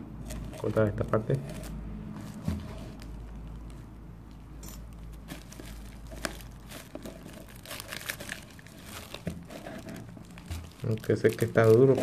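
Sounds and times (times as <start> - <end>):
plastic wrap crinkling: 0.2 - 12.0.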